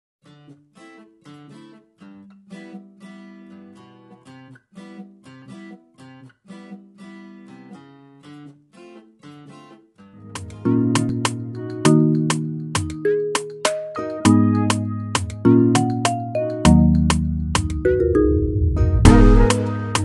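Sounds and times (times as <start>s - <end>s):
strummed acoustic guitar: 0.2s - 17.8s, 19.0s - 20.0s.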